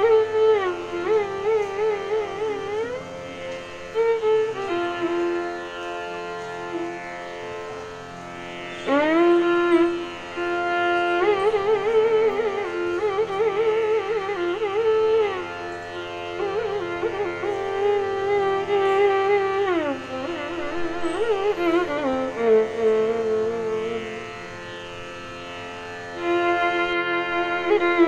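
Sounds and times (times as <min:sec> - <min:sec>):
indian classical instrumental music: 0:00.0 - 0:28.0.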